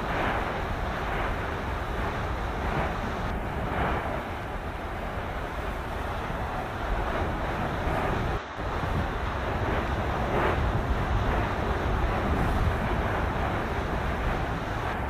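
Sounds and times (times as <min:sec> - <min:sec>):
lava eruption roar and rumble: 0:00.0 - 0:15.0
wind on microphone: 0:00.0 - 0:15.0.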